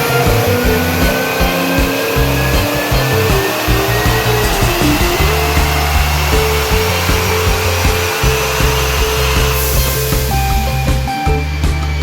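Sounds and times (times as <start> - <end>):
loud steady rushing noise: 0.0 - 12.0
music with stepping bass line: 0.0 - 12.0.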